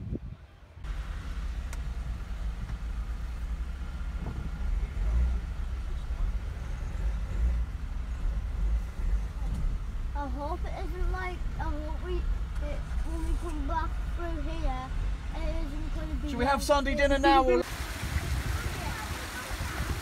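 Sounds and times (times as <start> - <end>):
vehicle rumble inside car cabin: 0.8 - 17.7.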